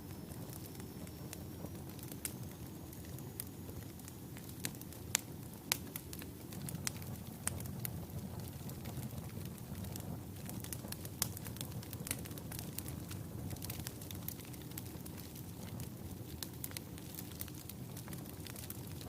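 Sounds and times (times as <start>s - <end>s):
fire rumbling in fireplace: 0.0s - 19.0s
logs crackling and popping: 0.1s - 19.0s.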